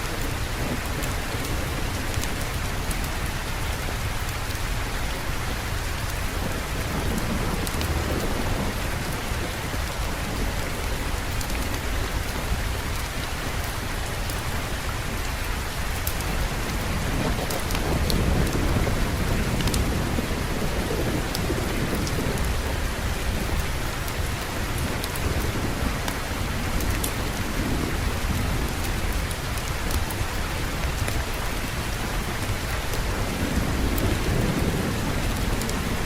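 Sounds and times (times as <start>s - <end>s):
heavy rain falling: 0.0s - 36.0s
thunder rumbling: 0.0s - 36.0s.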